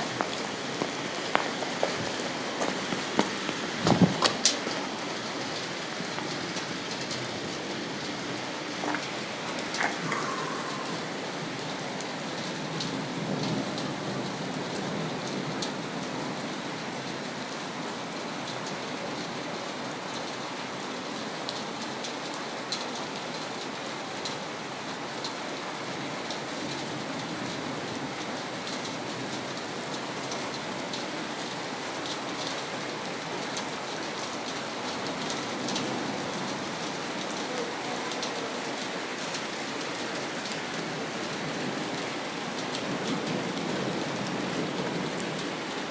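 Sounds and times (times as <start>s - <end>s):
rain on a hard surface: 0.0s - 45.9s.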